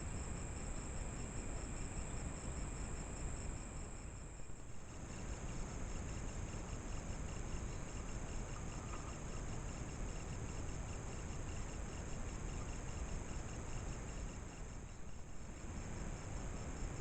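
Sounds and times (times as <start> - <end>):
insects trilling: 0.0 - 17.0
lower pulsing insect trill: 0.0 - 17.0.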